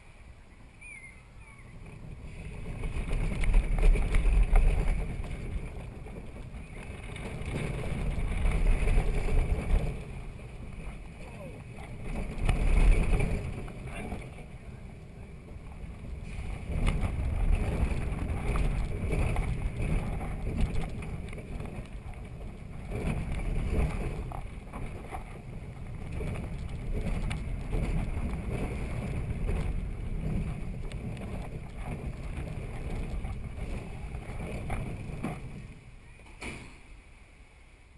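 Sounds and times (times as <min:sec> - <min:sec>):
roller coaster wheels clattering: 0:00.0 - 0:37.2.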